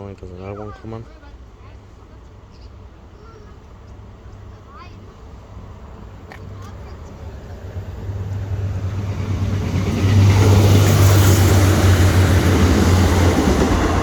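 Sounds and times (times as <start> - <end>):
diesel train engine hum: 0.0 - 14.0.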